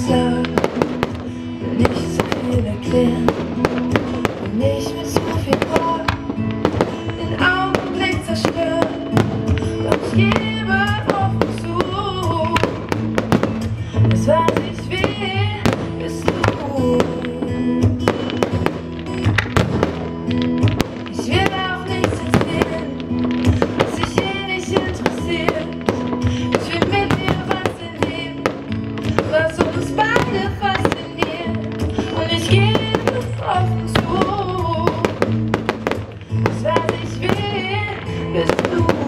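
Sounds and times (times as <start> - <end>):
fireworks cracking and banging: 0.0 - 39.0
music with singing voice: 0.0 - 39.0.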